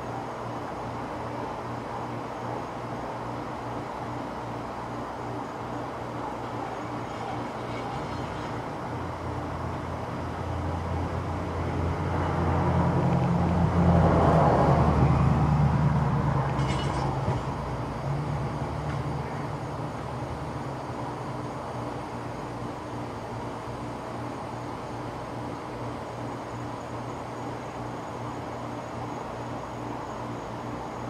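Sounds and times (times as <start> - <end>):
heavy vehicle engine drone: 0.0 - 31.0.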